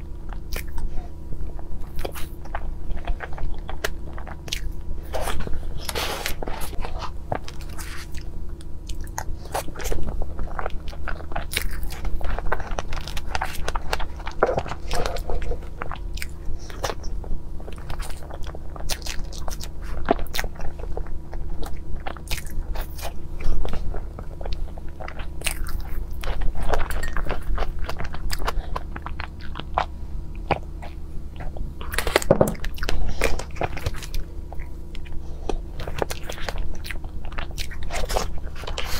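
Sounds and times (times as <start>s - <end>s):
steady low hum: 0.0s - 38.9s
chewing with wet clicks: 0.2s - 38.9s.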